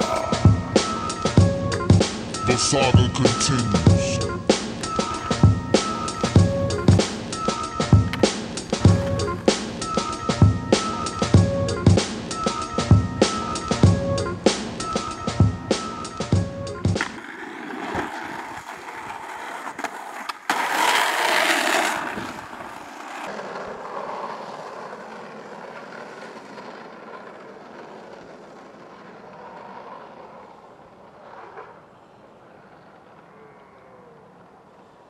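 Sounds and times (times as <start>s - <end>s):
skateboard wheels on concrete: 0.0s - 35.0s.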